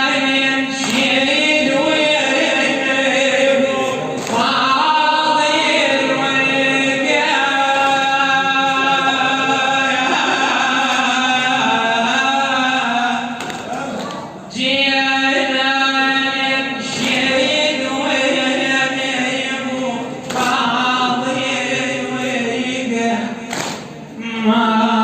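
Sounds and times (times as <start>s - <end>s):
man chanting a religious lament: 0.0s - 25.0s.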